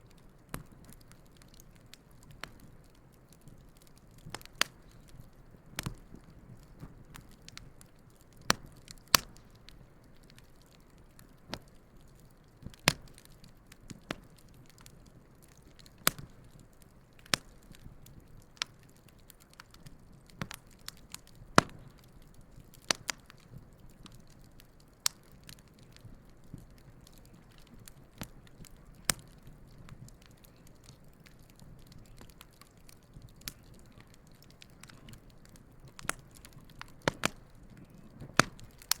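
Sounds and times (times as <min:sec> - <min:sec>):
campfire crackling and popping: 0:00.0 - 0:39.0
faint hiss of flames: 0:00.0 - 0:39.0.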